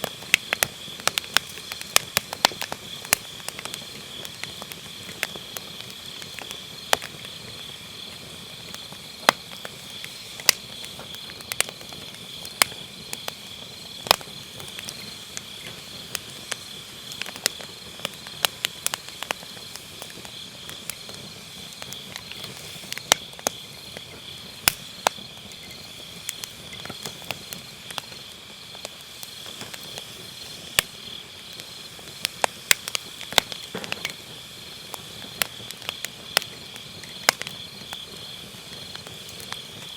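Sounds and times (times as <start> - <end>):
crickets trilling: 0.0 - 39.9
firewood crackling and popping: 0.0 - 39.9.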